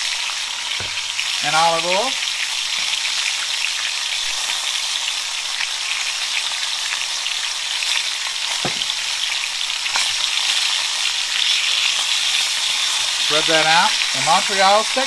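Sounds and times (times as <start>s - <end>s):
steaks sizzling in oil: 0.0s - 15.0s.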